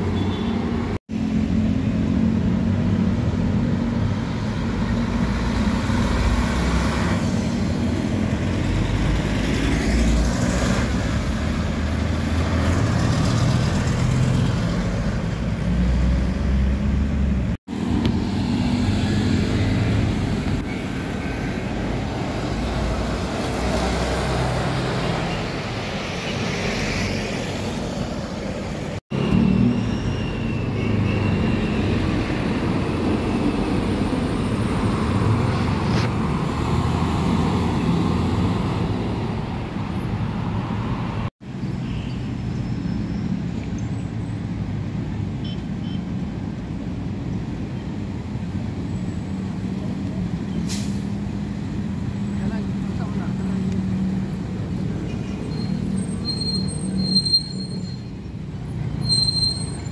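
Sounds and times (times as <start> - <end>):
trucks and cars passing: 0.0 - 59.9.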